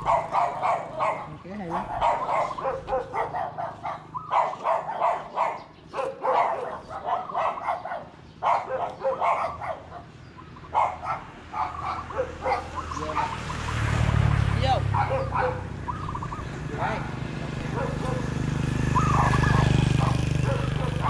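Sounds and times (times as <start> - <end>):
dog barking: 0.0 - 13.5, 14.9 - 15.8, 16.7 - 18.4, 19.0 - 21.0.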